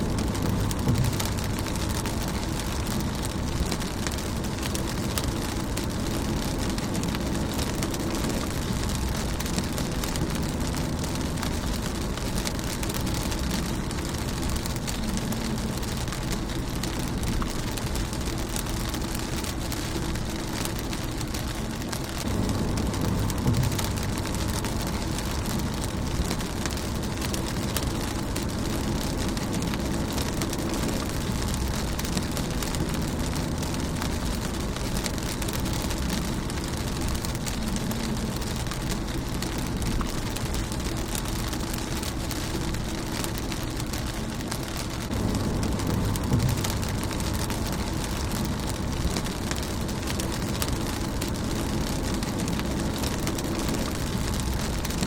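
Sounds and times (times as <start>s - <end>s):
rain drumming on a windshield: 0.0s - 55.0s.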